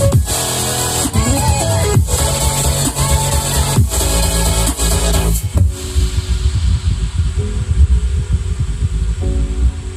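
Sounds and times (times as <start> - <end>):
bass-heavy instrumental music: 0.0 - 9.9.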